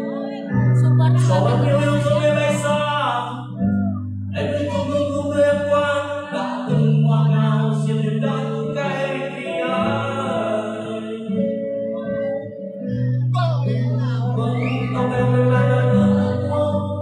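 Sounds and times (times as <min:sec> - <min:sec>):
backing music with bass notes: 0:00.0 - 0:17.0
person singing live: 0:00.0 - 0:17.0.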